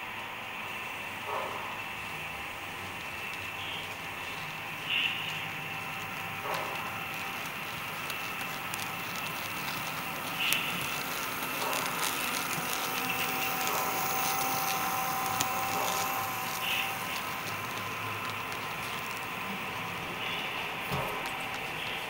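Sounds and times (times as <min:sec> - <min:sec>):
model train wheels clicking: 0:00.0 - 0:22.0
steady whine: 0:00.0 - 0:22.0.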